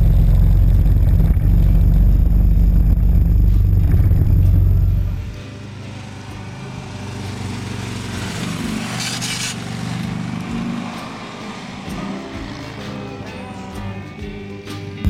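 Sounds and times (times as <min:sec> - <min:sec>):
motorcycle riding past: 0:00.0 - 0:14.9.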